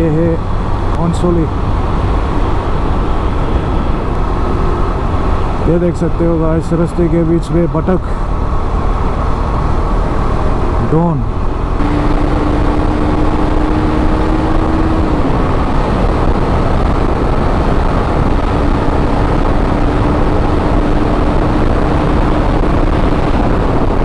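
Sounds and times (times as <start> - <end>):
motorcycle engine hum: 0.0 - 24.0
wind rushing over microphone: 0.0 - 24.0.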